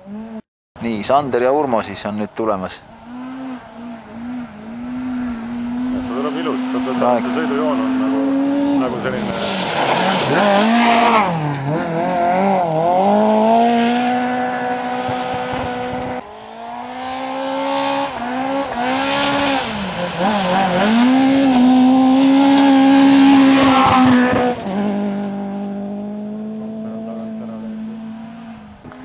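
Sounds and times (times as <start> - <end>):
rally car engine revving: 2.7 - 29.0.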